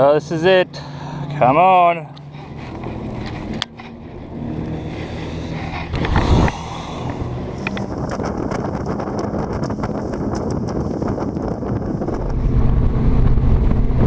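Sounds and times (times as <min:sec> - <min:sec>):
outboard motor running: 0:00.0 - 0:14.0
wind buffeting microphone: 0:02.0 - 0:14.0.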